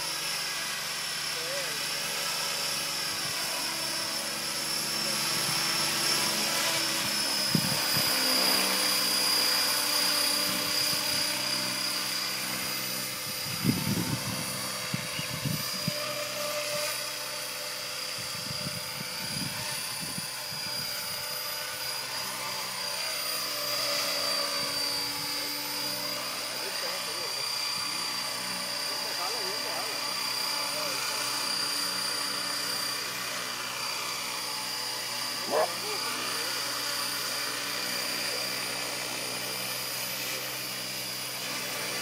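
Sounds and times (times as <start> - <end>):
high motor whine: 0.0 - 42.0
rotor blades whirring: 0.0 - 42.0.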